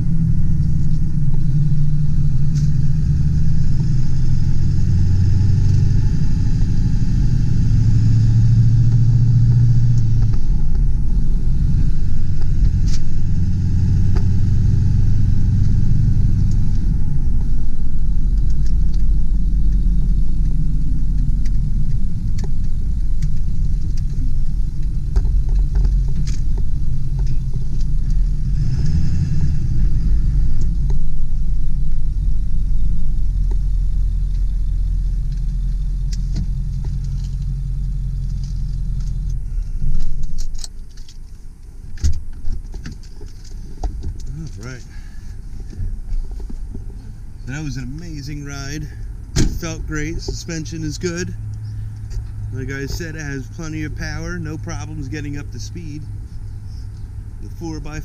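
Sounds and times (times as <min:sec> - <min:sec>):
diesel engine running: 0:00.0 - 0:58.0
low road rumble: 0:00.0 - 0:58.0.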